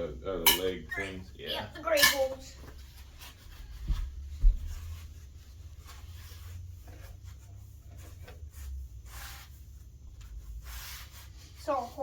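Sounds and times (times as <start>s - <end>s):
rubbing and light knocking: 2.1s - 12.0s.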